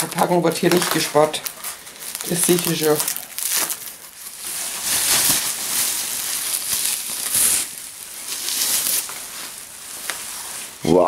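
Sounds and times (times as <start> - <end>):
knife cutting packaging: 0.0 - 10.3
bubble wrap crinkling and rustling: 0.0 - 11.0.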